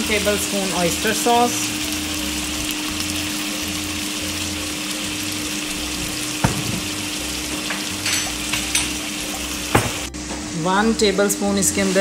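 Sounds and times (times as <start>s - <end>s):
sauce sizzling and bubbling: 0.0s - 10.2s.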